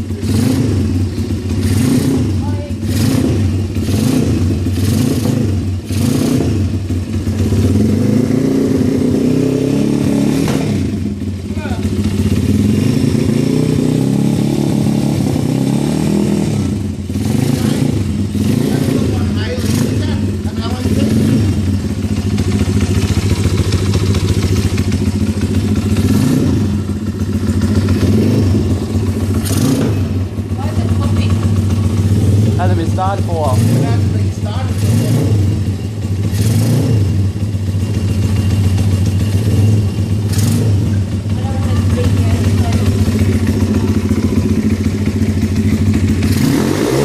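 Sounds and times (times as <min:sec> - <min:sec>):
motorbike engine revving: 0:00.0 - 0:47.0.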